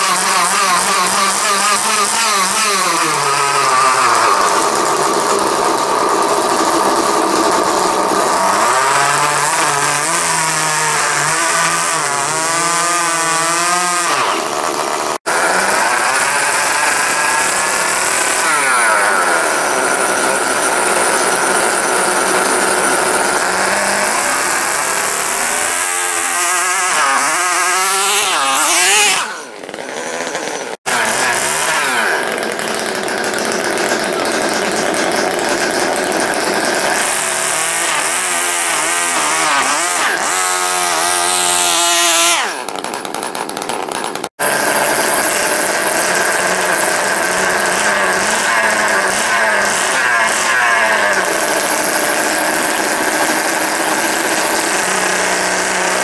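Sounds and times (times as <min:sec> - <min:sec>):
model engines buzzing high-pitched: 0:00.0 - 0:56.0.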